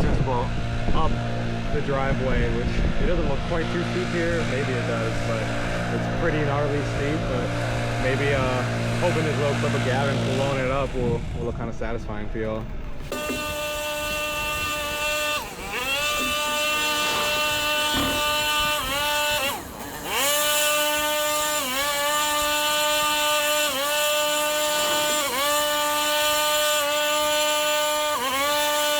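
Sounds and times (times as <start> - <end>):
leaf blower running: 0.0 - 28.9.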